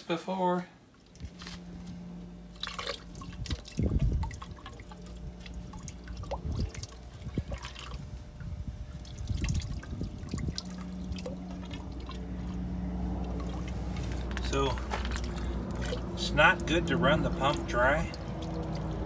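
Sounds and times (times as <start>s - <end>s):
steady low hum: 0.0s - 19.0s
water dripping and splashing: 0.9s - 1.5s, 2.5s - 19.0s.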